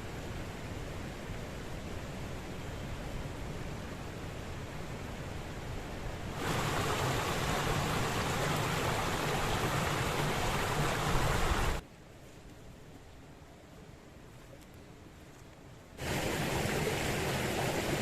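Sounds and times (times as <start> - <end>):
wind rushing through pines: 0.0 - 18.0.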